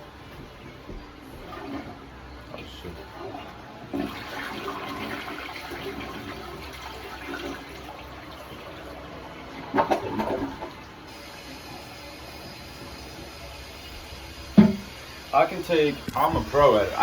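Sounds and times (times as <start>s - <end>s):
toilet flushing: 1.3s - 17.0s.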